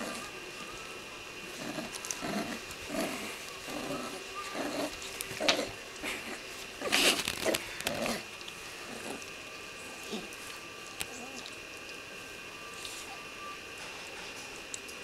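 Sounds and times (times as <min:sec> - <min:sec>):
puppies growling: 0:00.0 - 0:12.2.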